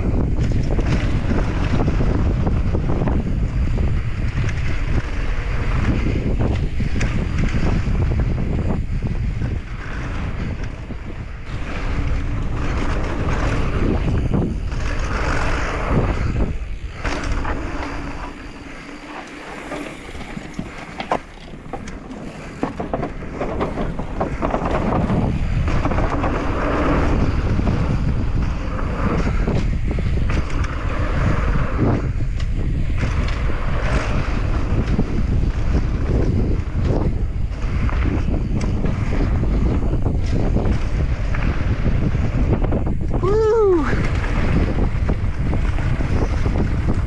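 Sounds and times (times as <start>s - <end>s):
bike rattling and clicking: 0.0s - 47.0s
tyre noise on dirt: 0.0s - 47.0s
wind buffeting microphone: 0.0s - 47.0s.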